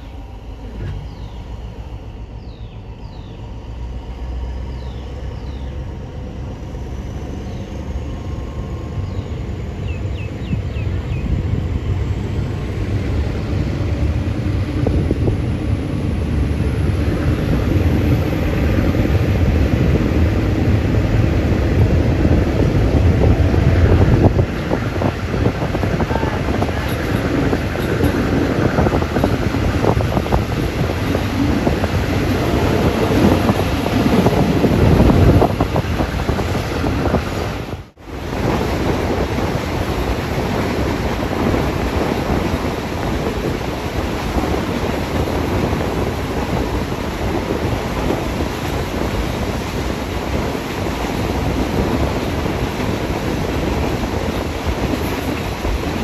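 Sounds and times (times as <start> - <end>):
train wheels on rails: 0.0 - 56.0
wind rushing over microphone: 0.0 - 56.0.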